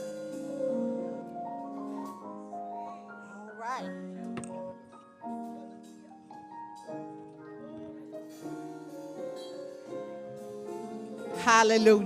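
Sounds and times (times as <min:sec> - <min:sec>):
soft sustained keyboard chords: 0:00.0 - 0:12.0.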